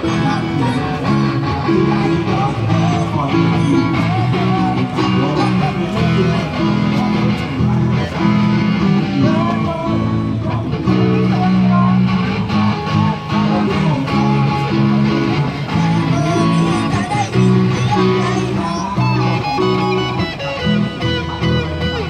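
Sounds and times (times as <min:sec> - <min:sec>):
guitar chords: 0:00.0 - 0:22.0.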